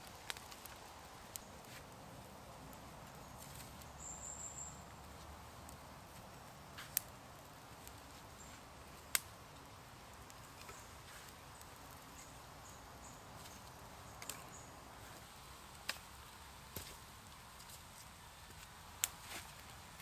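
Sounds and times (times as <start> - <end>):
fire crackling: 0.0 - 20.0
sharp snaps of burning sticks: 0.0 - 20.0.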